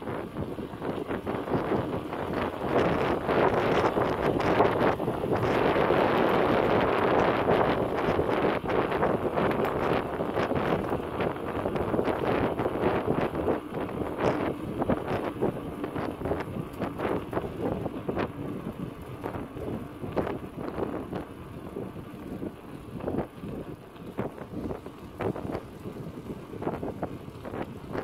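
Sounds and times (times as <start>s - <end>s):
tyres rolling over path: 0.0s - 28.0s
wind buffeting microphone: 0.0s - 28.0s
bicycle knocks and rattles: 0.1s - 28.0s.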